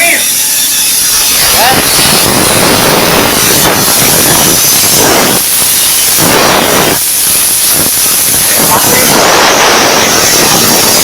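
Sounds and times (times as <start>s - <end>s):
arc gouging torch hissing: 0.0s - 11.0s.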